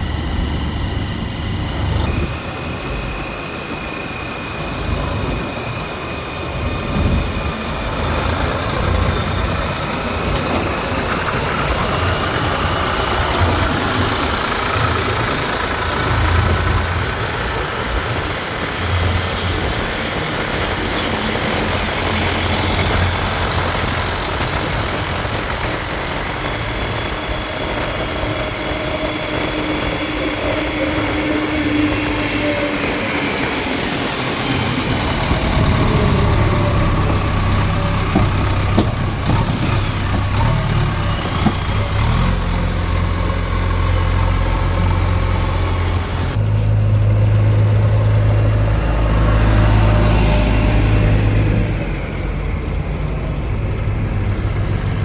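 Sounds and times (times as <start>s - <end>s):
backhoe diesel engine: 0.0s - 55.0s
tractor engine running: 0.0s - 55.0s.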